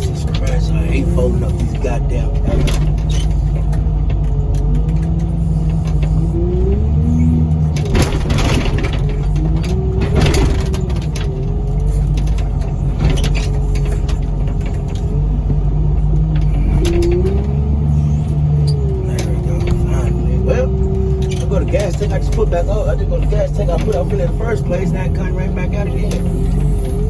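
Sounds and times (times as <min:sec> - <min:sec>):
diesel engine under load: 0:00.0 - 0:27.0
hydraulics whining: 0:00.0 - 0:27.0
metal body crunching: 0:00.0 - 0:27.0.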